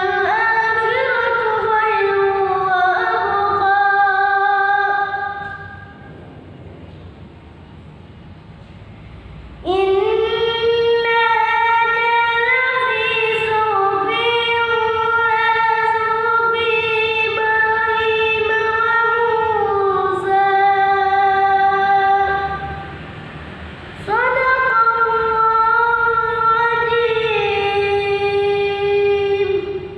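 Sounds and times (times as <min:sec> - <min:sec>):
boy reciting melodically: 0:00.0 - 0:06.1, 0:09.6 - 0:22.9, 0:24.0 - 0:29.9.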